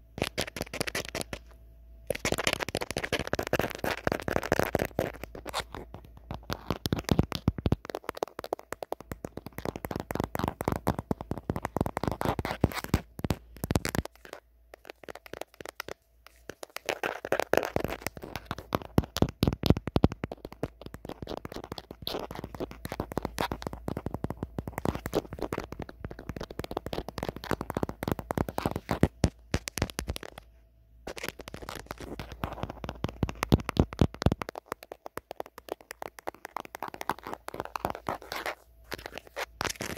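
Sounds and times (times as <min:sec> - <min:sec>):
fingernails tapping on phone: 0:02.1 - 0:30.4, 0:31.1 - 0:39.9.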